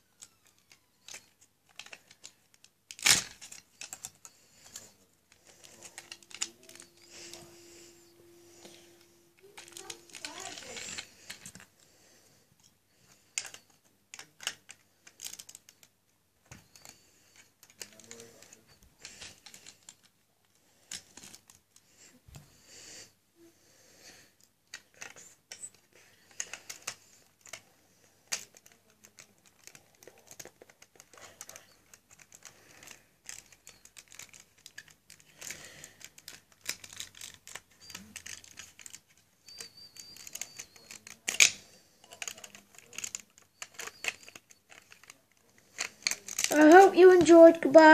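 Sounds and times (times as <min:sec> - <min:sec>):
plastic bricks clicking and rattling: 0:00.1 - 0:07.6, 0:08.6 - 0:11.7, 0:13.4 - 0:15.9, 0:16.5 - 0:20.2, 0:20.8 - 0:21.6, 0:24.7 - 0:47.9.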